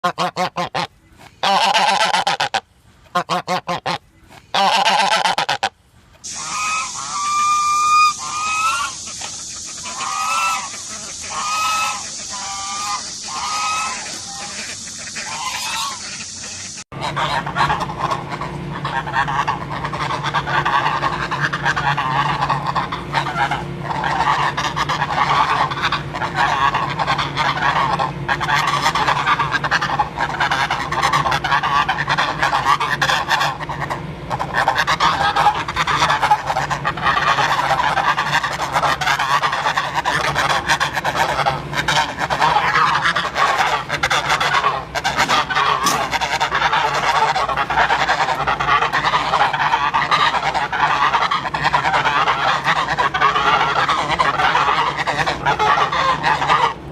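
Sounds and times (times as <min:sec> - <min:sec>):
geese honking: 0:00.0 - 0:56.9.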